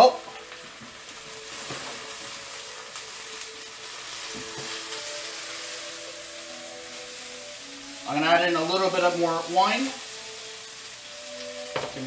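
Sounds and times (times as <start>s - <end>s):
vegetables sizzling in a frying pan: 0.0s - 12.0s
utensil stirring in a pan: 0.4s - 12.0s.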